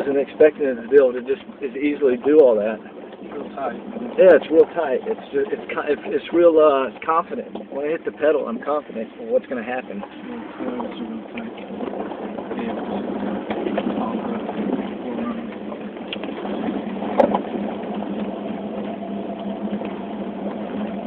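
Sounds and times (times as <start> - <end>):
car engine and tyre noise on gravel: 0.0 - 21.0
small rattles: 0.0 - 21.0.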